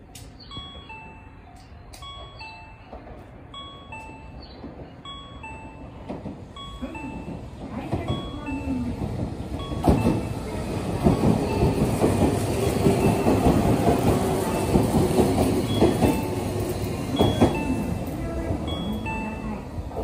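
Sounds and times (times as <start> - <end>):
train wheels clattering: 4.0 - 20.0.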